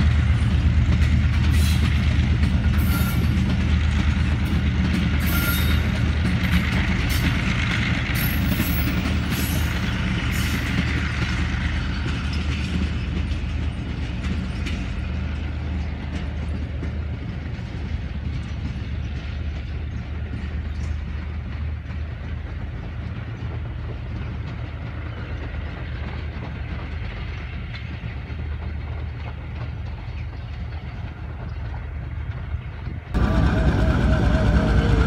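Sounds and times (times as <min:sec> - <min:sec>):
passenger train rolling on track: 0:00.0 - 0:35.0.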